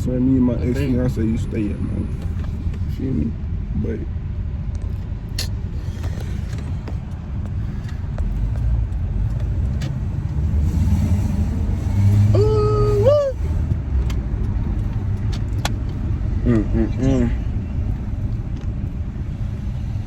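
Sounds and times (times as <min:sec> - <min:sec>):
road and engine rumble: 0:00.0 - 0:20.0.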